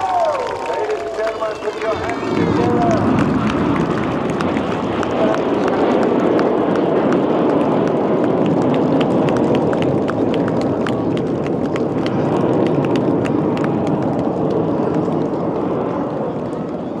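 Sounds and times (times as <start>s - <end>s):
crowd applauding: 0.0s - 15.4s
steady rushing roar: 0.0s - 17.0s.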